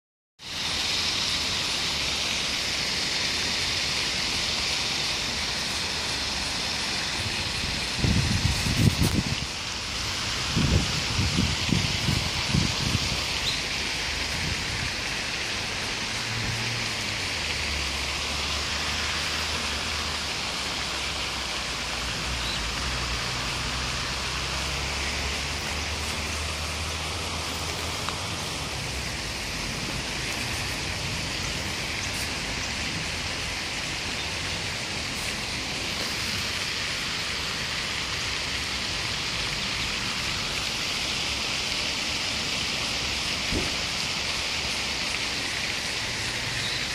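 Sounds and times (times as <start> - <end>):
water hissing: 0.4 - 46.9.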